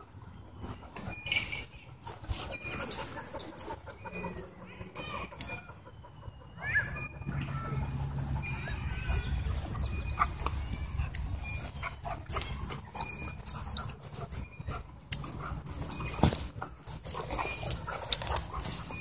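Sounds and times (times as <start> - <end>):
dogs play-wrestling: 0.0 - 6.6, 7.6 - 19.0.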